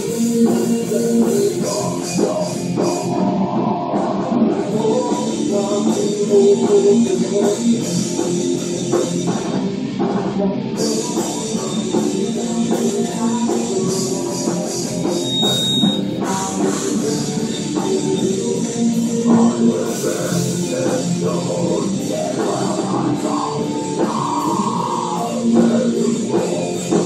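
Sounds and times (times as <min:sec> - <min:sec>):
drum kit: 0:00.0 - 0:27.0
electric guitar: 0:00.0 - 0:27.0.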